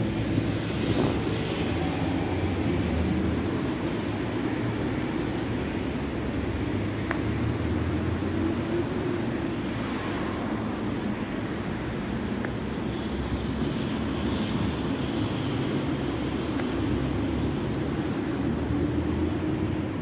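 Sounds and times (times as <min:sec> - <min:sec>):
low rumble of street traffic: 0:00.0 - 0:20.0.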